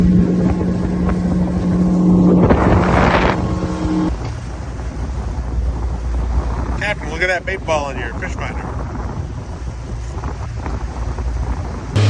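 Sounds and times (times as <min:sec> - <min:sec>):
motorboat engine humming: 0:00.0 - 0:07.7, 0:08.8 - 0:12.0.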